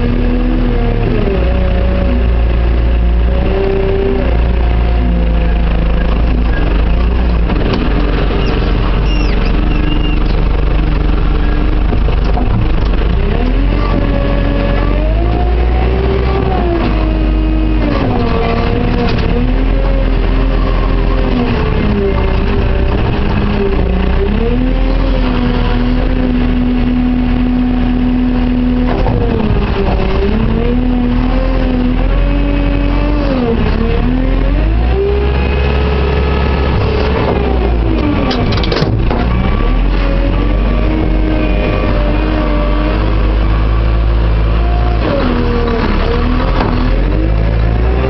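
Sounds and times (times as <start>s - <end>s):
diesel engine revving: 0.0s - 48.0s.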